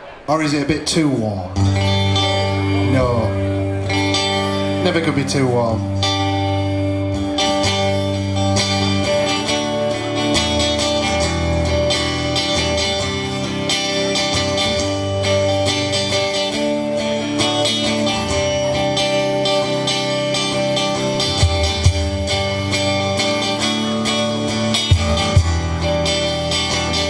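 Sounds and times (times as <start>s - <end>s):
live band playing instrumental: 0.0s - 27.0s
strummed and picked guitar: 0.0s - 27.0s.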